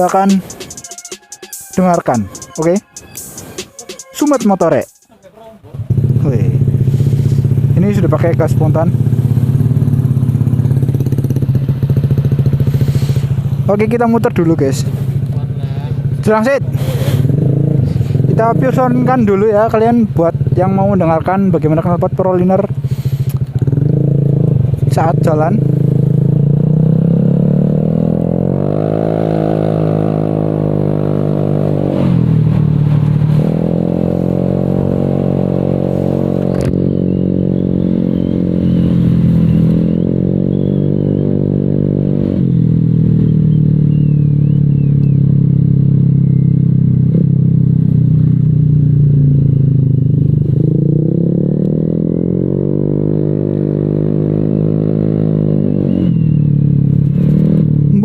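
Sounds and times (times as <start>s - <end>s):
scooter engine revving: 5.6s - 19.6s, 22.4s - 58.0s.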